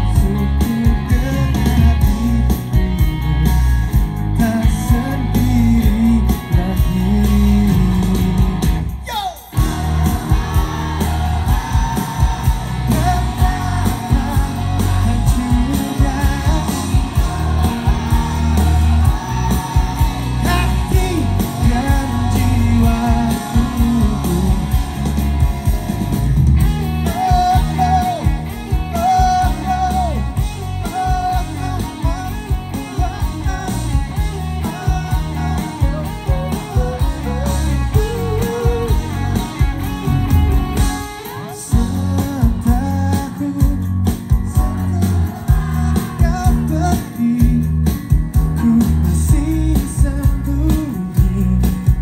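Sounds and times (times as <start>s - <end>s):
male singer: 0.0s - 3.0s, 4.3s - 25.3s, 26.9s - 40.3s, 41.2s - 52.0s
live rock band playing: 0.0s - 52.0s.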